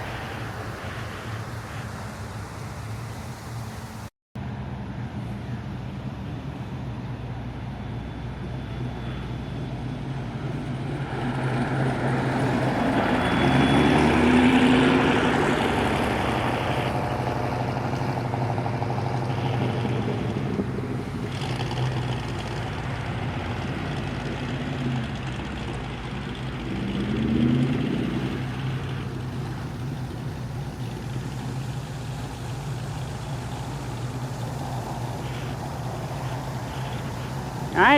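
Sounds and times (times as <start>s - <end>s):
engine running: 0.0s - 37.9s
vehicles driving past: 0.0s - 37.9s.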